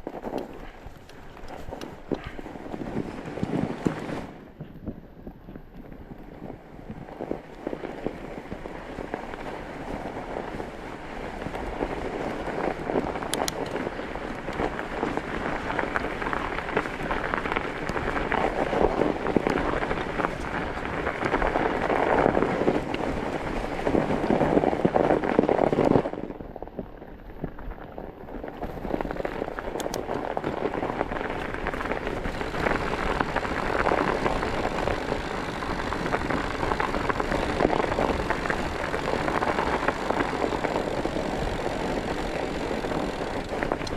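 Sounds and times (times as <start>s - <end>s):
chained tyres crunching on snow: 0.0s - 43.9s.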